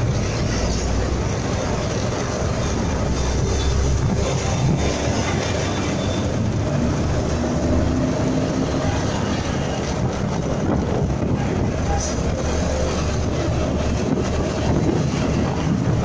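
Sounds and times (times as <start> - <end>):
truck rumbling alongside: 0.0 - 16.0.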